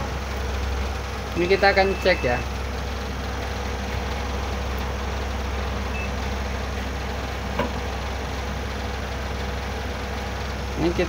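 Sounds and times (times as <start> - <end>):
electric fan whirring: 0.0 - 11.0
refrigerator compressor humming: 0.0 - 11.0.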